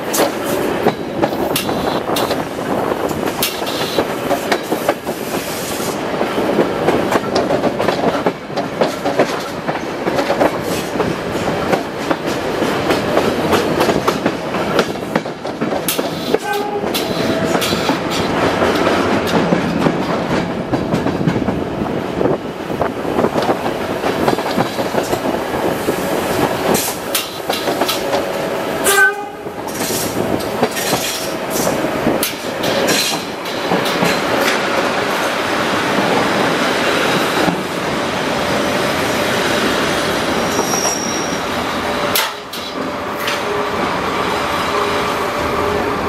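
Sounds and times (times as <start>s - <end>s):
train wheels clattering on track: 0.0s - 46.0s.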